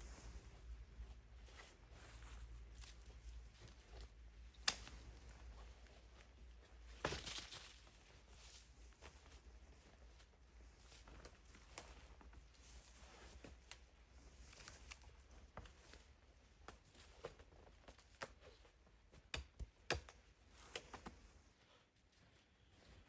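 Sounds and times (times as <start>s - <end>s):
quiet hiss: 0.0s - 23.0s
soft rustling: 0.0s - 23.0s.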